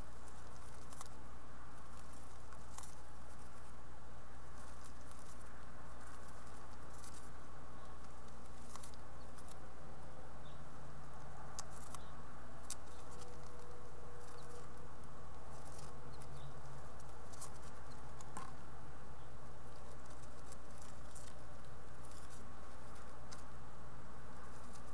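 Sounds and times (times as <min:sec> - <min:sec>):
birds scratching on wooden floor: 0:00.0 - 0:24.9
steady low hum: 0:00.0 - 0:24.9.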